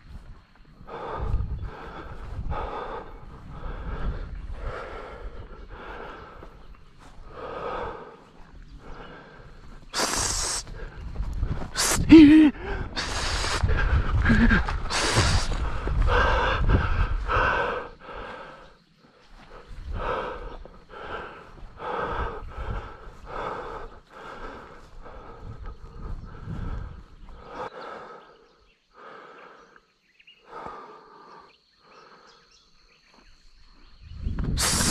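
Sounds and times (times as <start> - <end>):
person panting hard: 0.1 - 33.3, 34.5 - 34.9.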